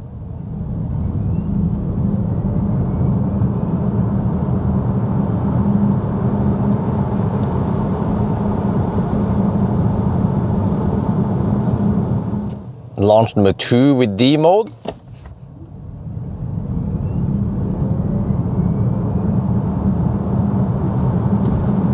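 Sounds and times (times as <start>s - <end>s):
road and tyre roar: 0.0s - 21.9s.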